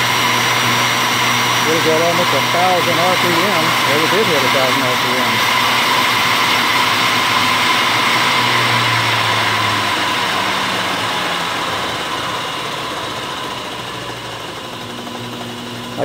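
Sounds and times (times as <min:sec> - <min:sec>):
metal lathe running: 0:00.0 - 0:16.0.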